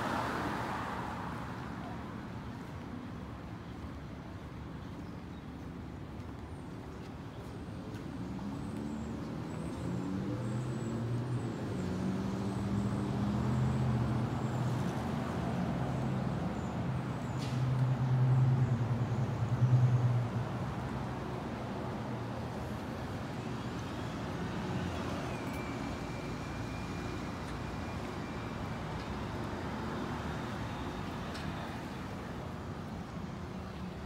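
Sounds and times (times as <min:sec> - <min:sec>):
street traffic: 0:00.0 - 0:34.0.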